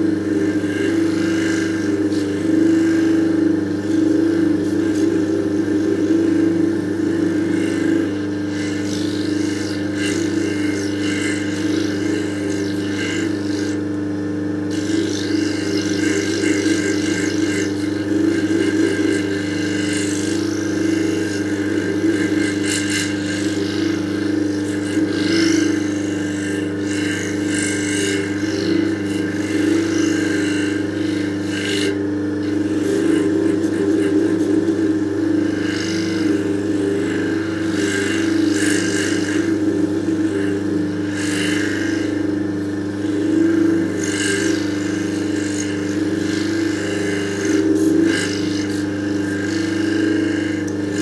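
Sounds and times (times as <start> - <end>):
stone scraping on polishing pad: 0.0 - 14.0, 14.7 - 51.0
polishing machine motor hum: 0.0 - 51.0.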